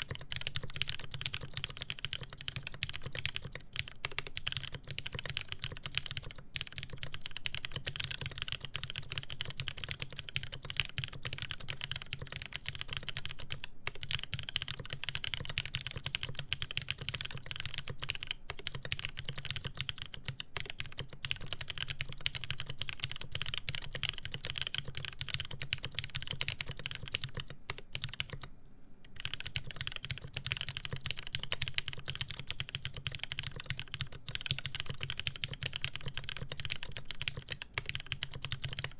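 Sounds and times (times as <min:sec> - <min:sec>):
fast mechanical keyboard typing: 0:00.0 - 0:28.5, 0:29.2 - 0:38.9.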